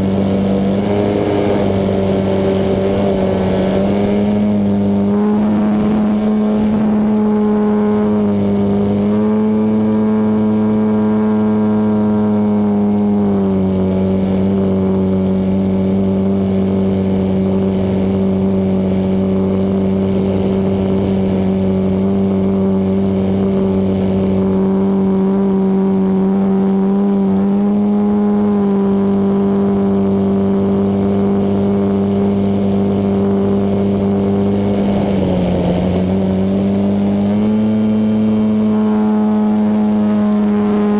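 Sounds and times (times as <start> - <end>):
model airplane engine running: 0.0 - 40.9.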